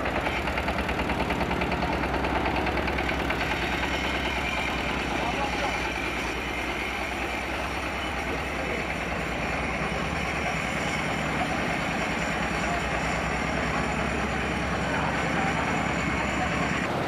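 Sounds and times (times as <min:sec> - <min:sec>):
machine rattling: 0:00.0 - 0:16.9
small engine running: 0:00.0 - 0:17.0.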